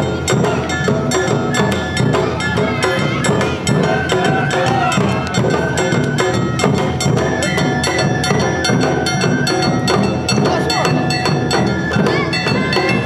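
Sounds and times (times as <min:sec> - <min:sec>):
bamboo flute melody: 0:00.0 - 0:13.0
taiko drums beating: 0:00.0 - 0:13.0.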